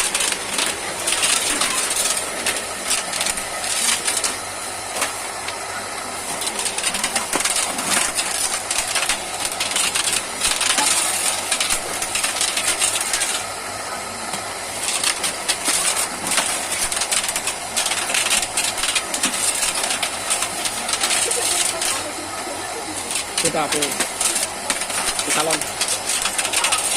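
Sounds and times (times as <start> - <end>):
cutting machine metallic clattering: 0.0 - 13.6, 14.2 - 26.9.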